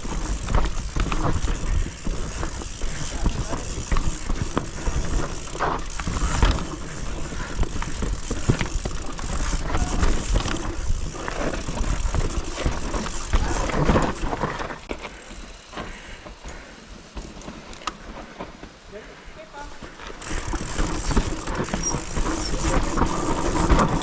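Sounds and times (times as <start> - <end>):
bike rattling and clicking: 0.0 - 18.8, 19.8 - 24.0
bike tyres on dirt: 0.0 - 24.0.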